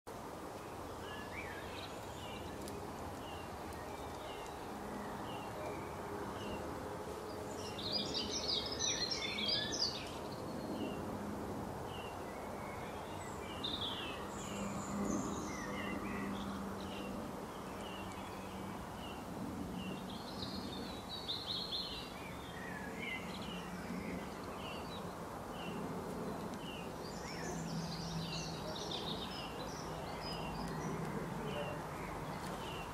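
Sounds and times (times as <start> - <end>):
background hiss: 0.1 - 32.9
birds twittering song: 0.1 - 32.9
birds chirping: 0.4 - 11.2, 11.8 - 32.9.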